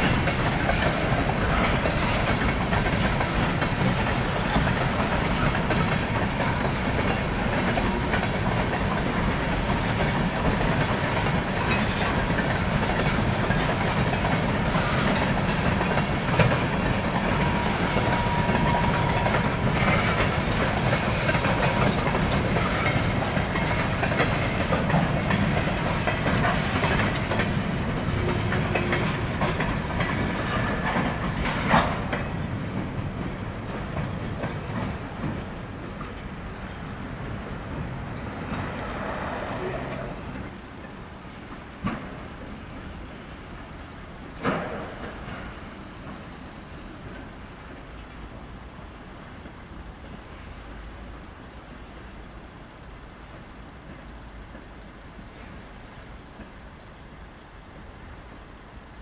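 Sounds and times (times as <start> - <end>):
wheels clacking over rail joints: 0.0 - 50.8
train wheels rumbling on rails: 0.0 - 59.0.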